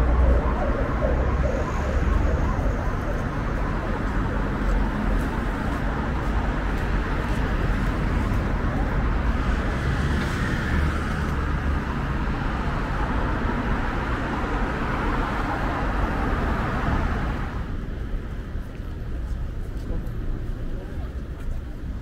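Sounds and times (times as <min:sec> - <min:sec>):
traffic passing: 0:00.0 - 0:22.0.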